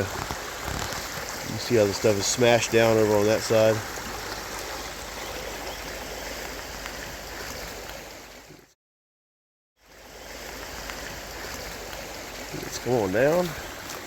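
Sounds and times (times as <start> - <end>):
creek water running: 0.0 - 8.8, 9.8 - 14.0.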